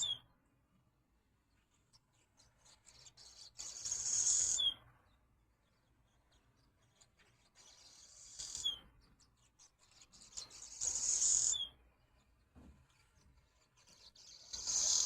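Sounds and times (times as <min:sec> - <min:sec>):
swallows twittering: 0:00.0 - 0:00.3, 0:01.5 - 0:15.0.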